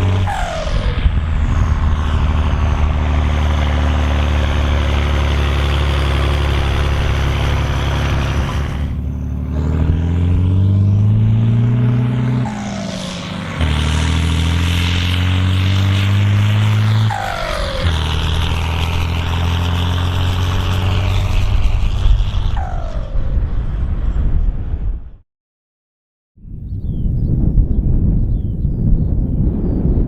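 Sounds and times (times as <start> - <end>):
tractor diesel engine under load: 0.0 - 24.8.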